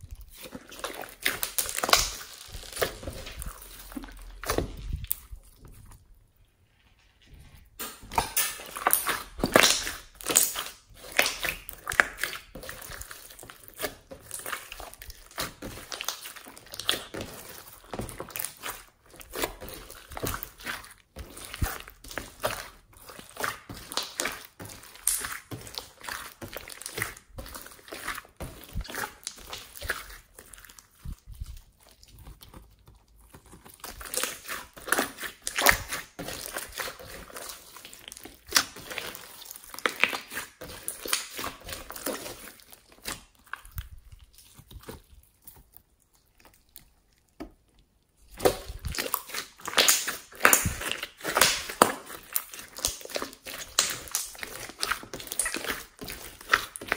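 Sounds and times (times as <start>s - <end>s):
slime squished by hands: 0.0s - 6.4s, 7.8s - 56.9s.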